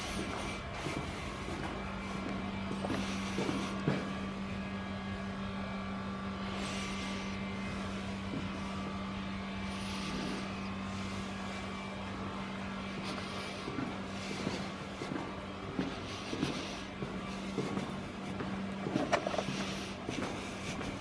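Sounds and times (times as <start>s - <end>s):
metro station low hum: 0.0s - 21.0s.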